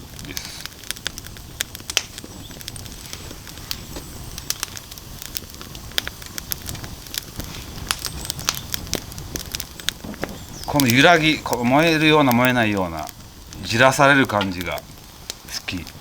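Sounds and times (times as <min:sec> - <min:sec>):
firewood crackling and popping: 0:00.0 - 0:16.0
low rumble of flame: 0:00.0 - 0:16.0.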